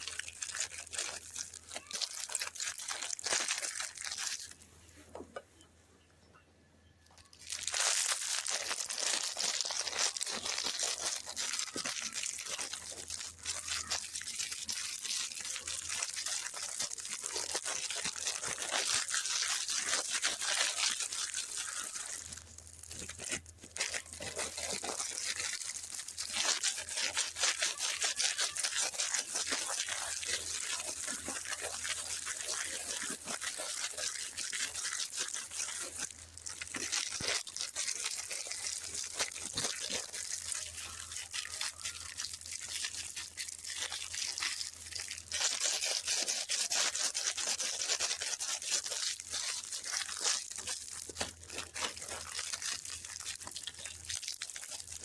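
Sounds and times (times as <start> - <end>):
sweet wrappers crinkling: 0.0 - 5.2, 7.0 - 55.0.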